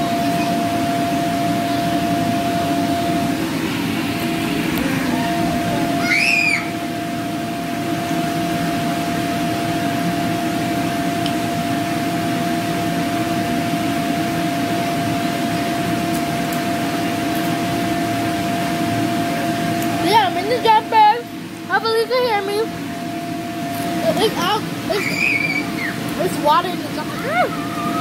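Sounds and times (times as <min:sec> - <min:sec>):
electric air blower running: 0:00.0 - 0:28.0.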